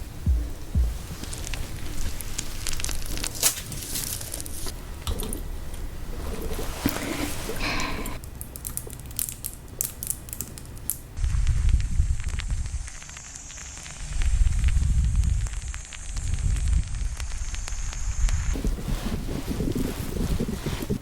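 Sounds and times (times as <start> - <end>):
low rumble: 0.0 - 8.2, 11.2 - 21.0
crinkling and crackling clicks: 0.7 - 21.0.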